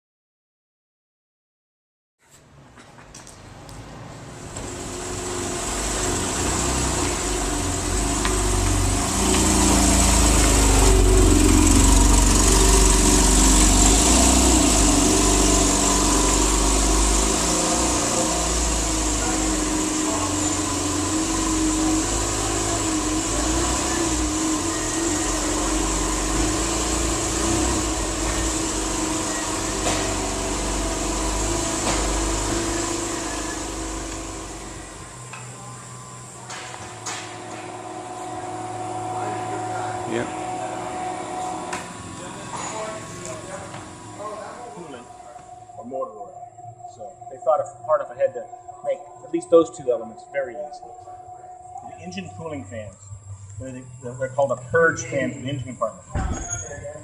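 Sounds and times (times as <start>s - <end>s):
car engine idling: 4.2s - 57.0s.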